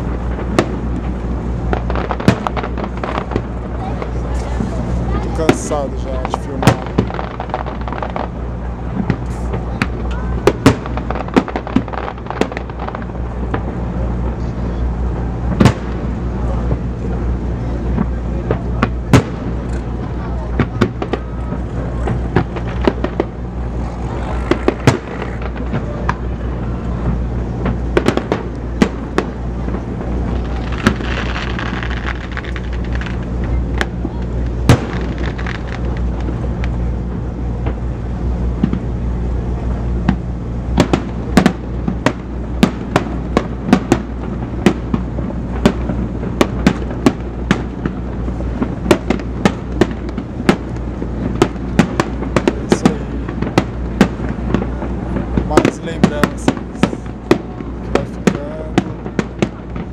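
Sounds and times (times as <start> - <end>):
fireworks bangs and crackles: 0.0 - 59.9
low rumble: 0.0 - 59.9.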